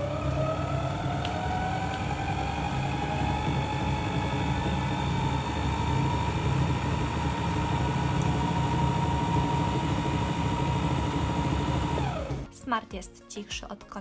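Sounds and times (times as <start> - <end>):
food processor motor humming: 0.0 - 12.5.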